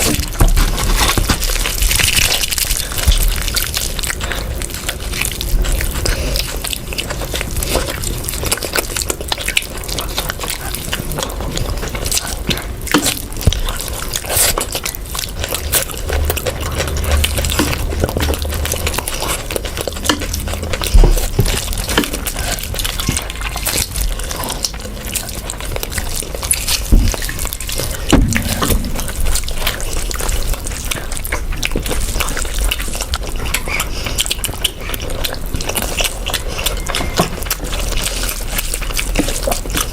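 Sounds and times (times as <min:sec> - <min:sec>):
person chewing food wetly: 0:00.0 - 0:39.9.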